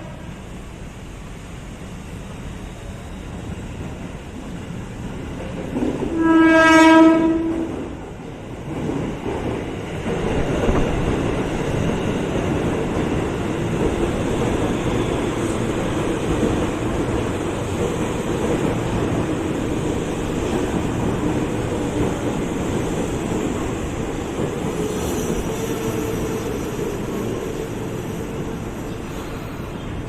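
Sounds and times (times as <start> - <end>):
electric train rumbling on track: 0.0 - 30.0.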